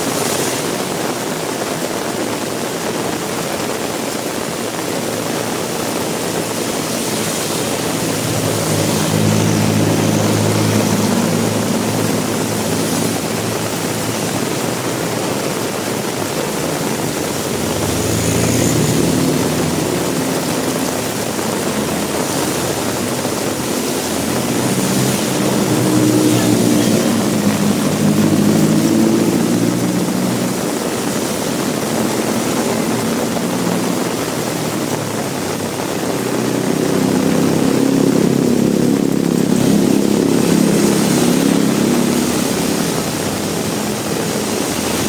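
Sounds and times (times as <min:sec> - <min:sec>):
heavy rain falling: 0:00.0 - 0:45.0
vehicles passing by: 0:00.0 - 0:45.0.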